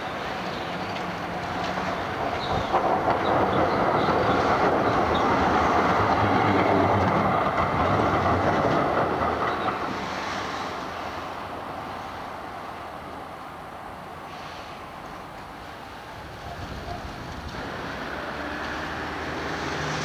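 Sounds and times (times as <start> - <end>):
tram wheels clacking on rails: 0.0 - 20.0.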